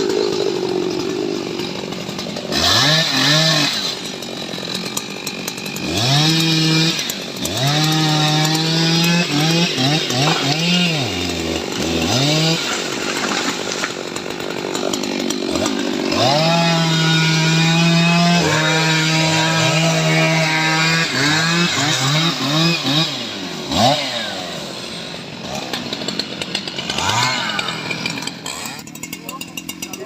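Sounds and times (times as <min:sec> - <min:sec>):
chainsaw running at high revs: 0:00.0 - 0:30.0.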